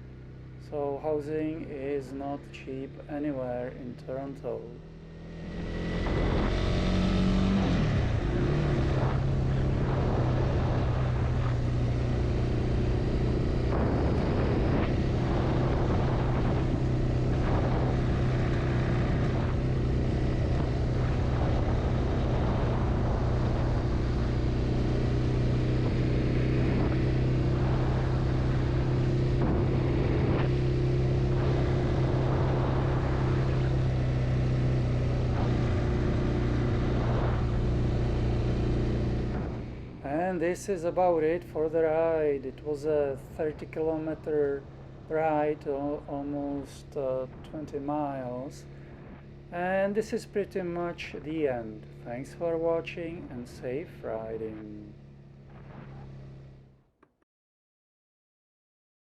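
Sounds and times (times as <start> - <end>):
motorcycle engine running: 0.0 - 56.8.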